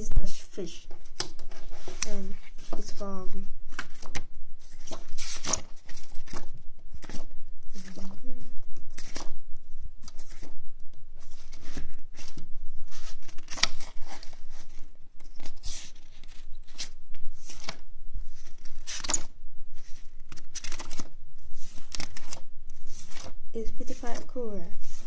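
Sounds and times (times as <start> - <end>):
paper rustling and sliding: 1.0 - 3.0, 3.7 - 8.2, 11.2 - 25.0.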